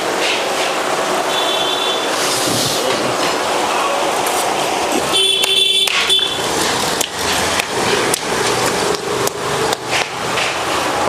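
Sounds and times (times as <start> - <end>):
busy street noise: 0.0 - 11.0.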